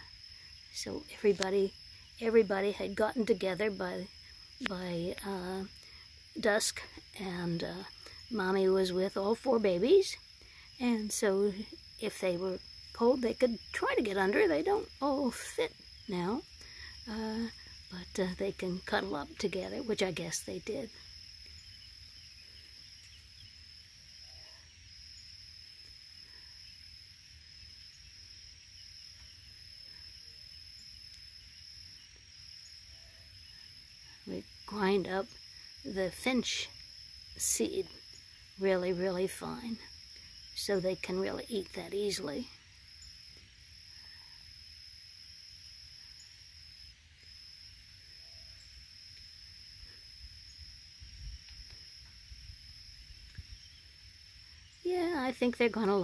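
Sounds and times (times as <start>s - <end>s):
high-pitched insect trill: 0.0s - 56.0s.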